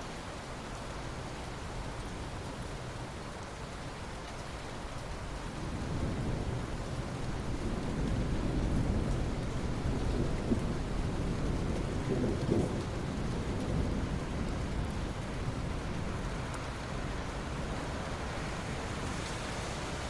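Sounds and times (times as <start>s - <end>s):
rain falling on sea water: 0.0s - 20.0s.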